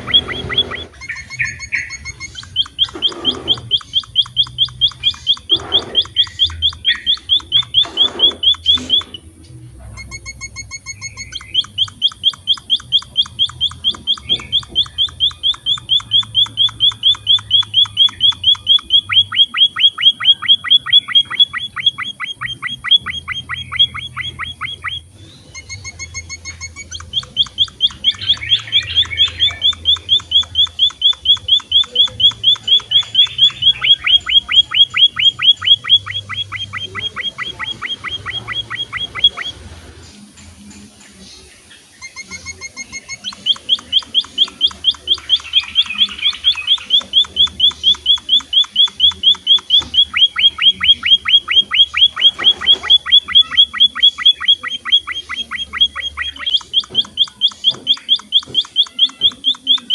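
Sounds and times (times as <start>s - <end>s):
finch chirping rapidly: 0.0s - 9.3s, 10.0s - 40.0s, 41.3s - 59.9s.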